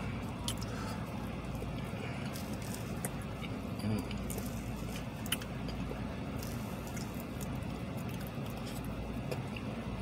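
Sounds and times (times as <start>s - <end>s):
soft chewing: 0.0s - 10.0s
steady low hum: 0.0s - 10.0s.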